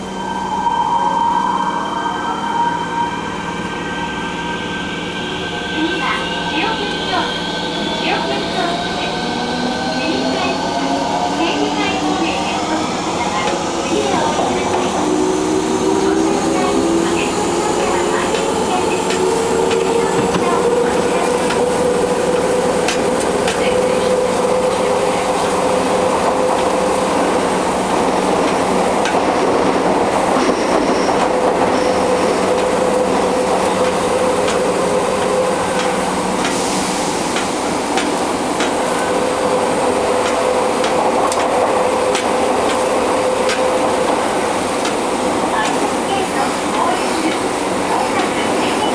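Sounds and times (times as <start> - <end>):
train wheel and rail noise: 0.0 - 48.9
train whine: 0.0 - 48.9.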